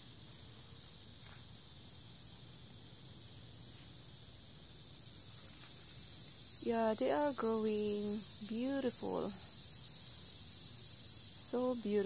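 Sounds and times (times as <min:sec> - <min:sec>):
insects chirping chorus: 0:00.0 - 0:12.0.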